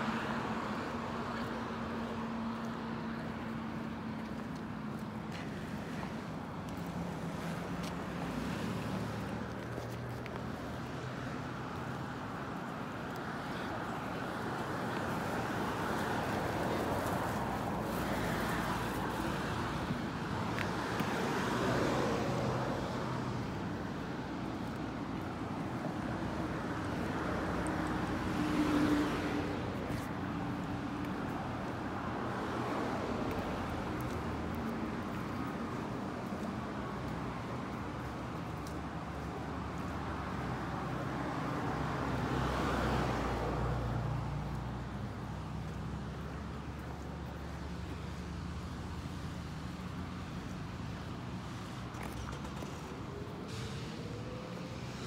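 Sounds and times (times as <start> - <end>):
cars and trucks passing: 0.0 - 55.0.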